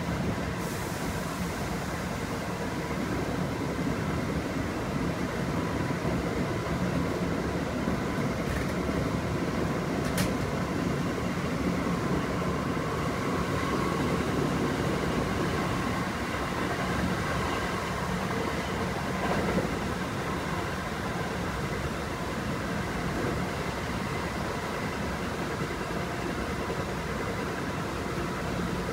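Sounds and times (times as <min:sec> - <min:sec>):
train wheels rumbling: 0:00.0 - 0:28.9.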